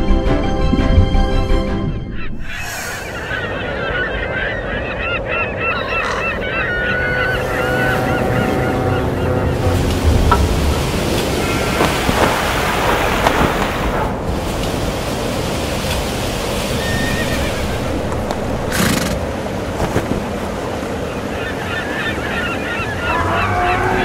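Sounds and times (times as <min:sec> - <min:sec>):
birds calling: 0:02.0 - 0:14.1, 0:16.4 - 0:24.0.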